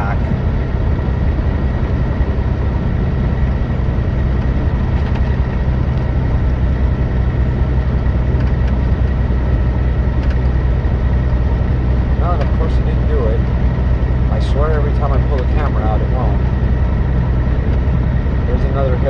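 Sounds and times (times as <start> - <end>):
diesel truck engine under load: 0.0 - 19.0.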